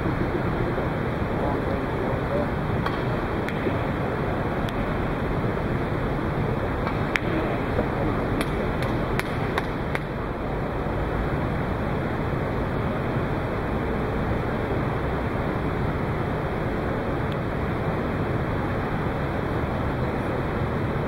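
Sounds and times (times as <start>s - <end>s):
rushing indoor hall noise: 0.0s - 21.0s.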